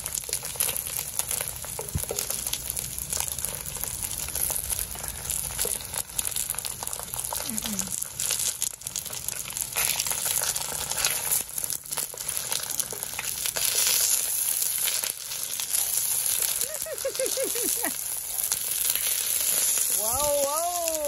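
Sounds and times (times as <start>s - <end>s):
pancake sizzling in hot oil: 0.0s - 21.0s.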